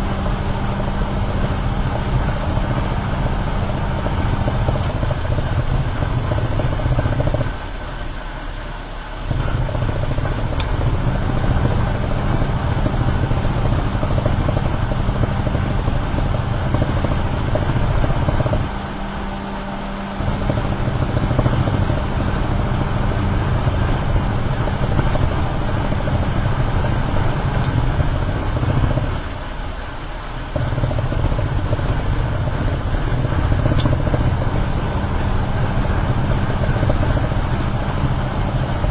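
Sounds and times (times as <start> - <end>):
rumble of tyres road and wind: 0.0 - 38.9.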